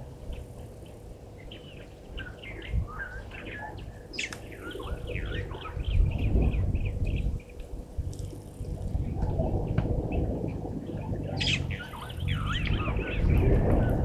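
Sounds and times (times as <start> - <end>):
low rumble: 0.0 - 14.0
small birds chirping: 0.0 - 14.0.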